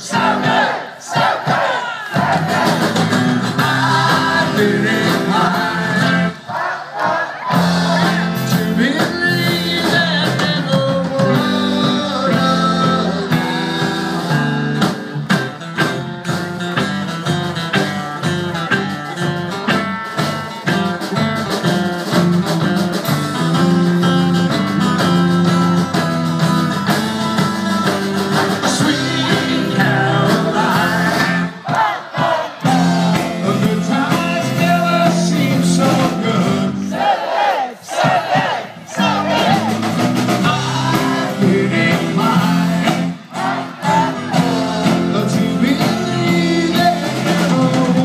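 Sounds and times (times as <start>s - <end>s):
drum kit beat: 0.0s - 48.0s
electric guitars: 2.2s - 6.5s, 7.4s - 36.9s, 39.0s - 48.0s.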